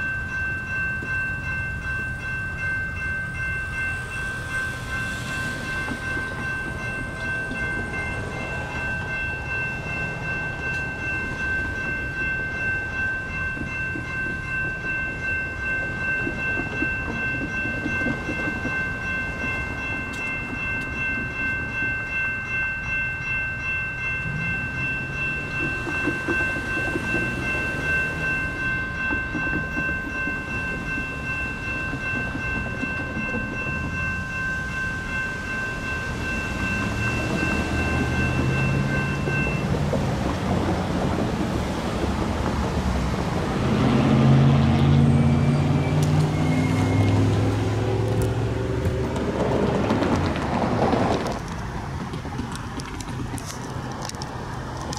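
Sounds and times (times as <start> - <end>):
cars driving across crossing: 0.0 - 54.9
railroad crossing bell ringing: 0.0 - 54.9.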